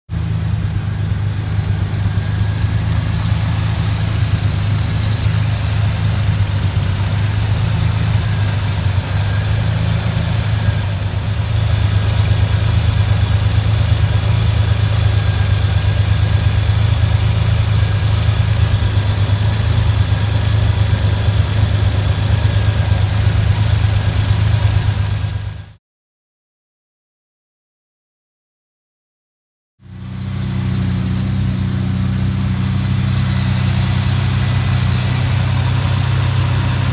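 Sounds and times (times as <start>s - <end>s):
misfiring engine idling with ticks: 0.1s - 25.8s, 29.8s - 36.9s.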